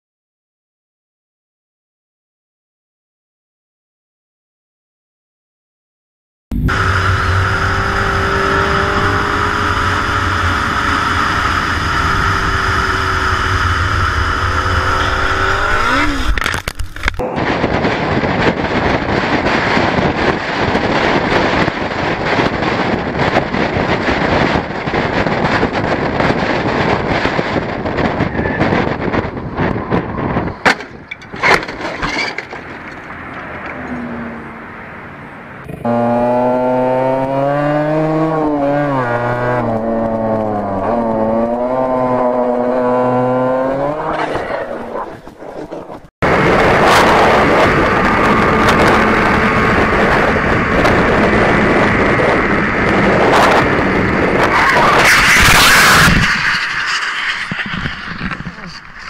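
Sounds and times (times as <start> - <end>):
motorcycle engine: 6.5 - 58.5
wind noise: 6.5 - 59.0.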